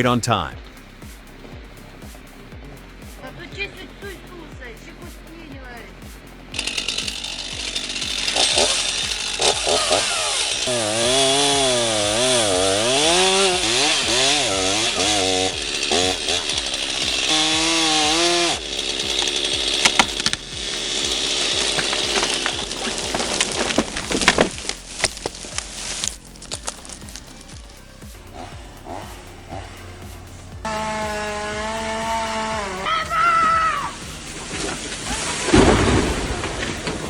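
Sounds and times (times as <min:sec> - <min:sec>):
chainsaw cutting: 0:05.0 - 0:37.0
sharp cracks: 0:06.0 - 0:37.0.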